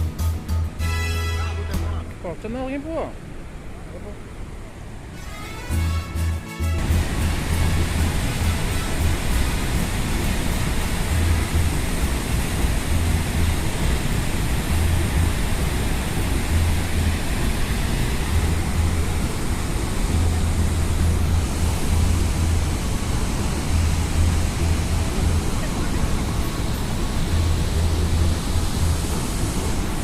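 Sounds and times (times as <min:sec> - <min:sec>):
waterfall rushing: 0:04.3 - 0:30.0.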